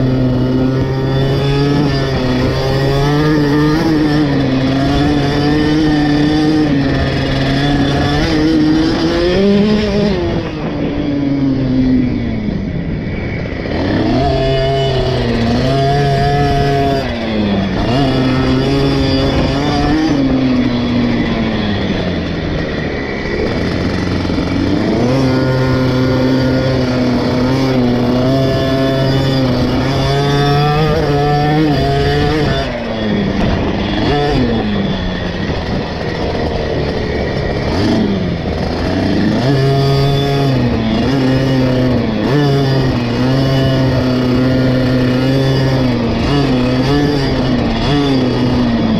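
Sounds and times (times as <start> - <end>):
two-stroke engine revving: 0.0 - 48.9.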